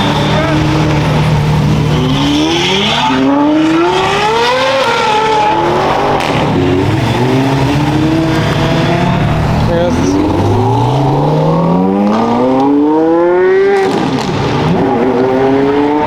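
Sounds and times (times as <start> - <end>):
racing car engines accelerating: 0.0 - 16.0.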